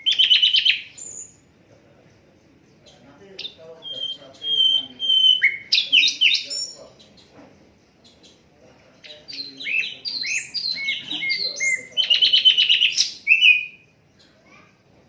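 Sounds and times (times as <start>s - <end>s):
bird trill: 0.0s - 1.5s, 2.3s - 14.8s.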